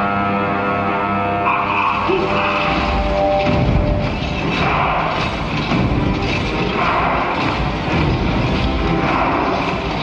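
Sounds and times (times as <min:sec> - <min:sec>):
film music: 0:00.0 - 0:10.0
rumbling battle effects: 0:01.7 - 0:10.0.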